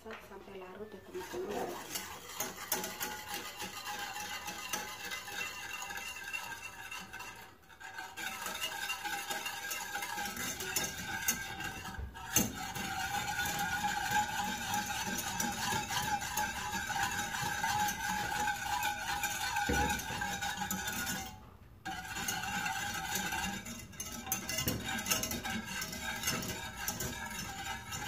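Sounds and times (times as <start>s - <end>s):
whisk clicking in a saucepan: 0.8s - 28.0s.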